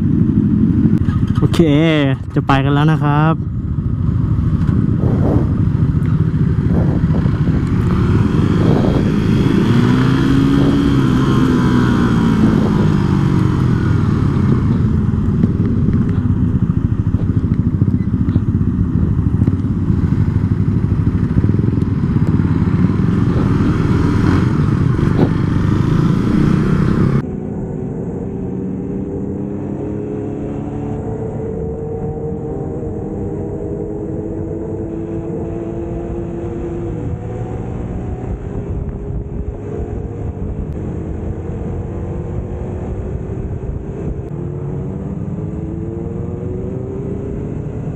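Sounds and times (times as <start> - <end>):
motorcycle engine revving: 0.0 - 47.9
wind noise on microphone: 3.5 - 27.2, 32.7 - 47.9.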